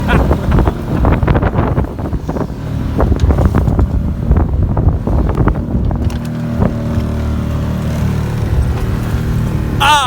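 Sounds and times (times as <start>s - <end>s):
wind buffeting microphone: 0.0s - 9.8s
water noise: 0.0s - 10.0s.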